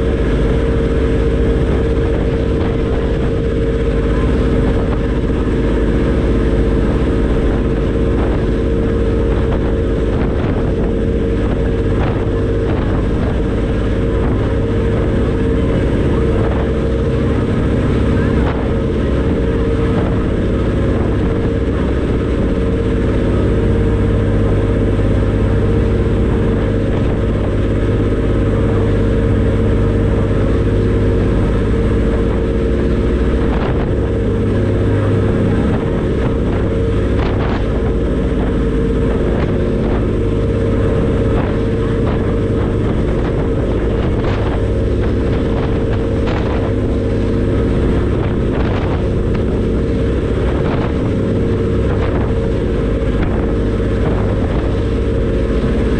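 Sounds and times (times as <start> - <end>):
diesel engines droning: 0.0 - 55.9
water noise: 0.0 - 55.9
wind: 0.0 - 55.9.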